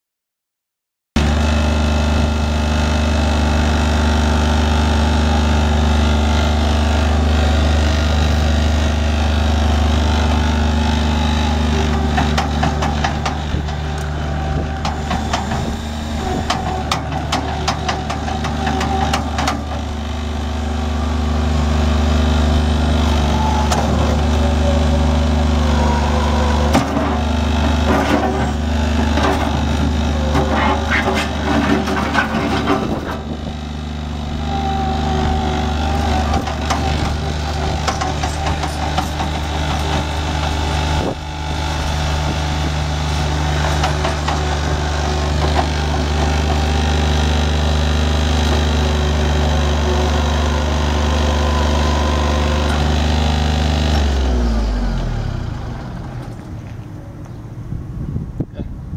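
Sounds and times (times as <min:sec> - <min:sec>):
diesel engine running: 0:01.2 - 0:58.9.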